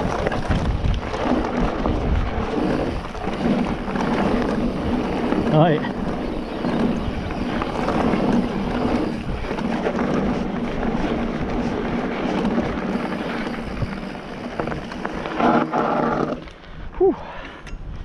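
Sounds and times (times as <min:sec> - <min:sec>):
bike knocks and rattles: 0:00.0 - 0:16.4
bike tyres rumbling on trail: 0:00.0 - 0:17.1
wind buffeting microphone: 0:00.0 - 0:18.0.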